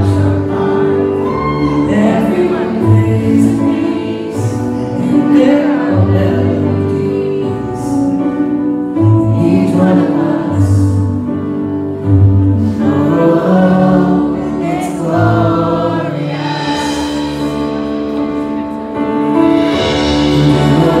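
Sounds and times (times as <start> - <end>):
steady bass notes: 0.0 - 21.0.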